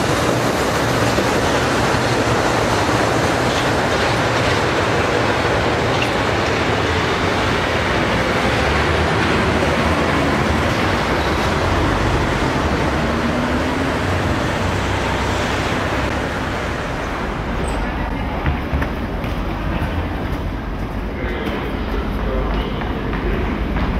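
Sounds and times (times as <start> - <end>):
metro train rolling on viaduct: 0.0 - 23.9
street traffic: 0.0 - 23.9.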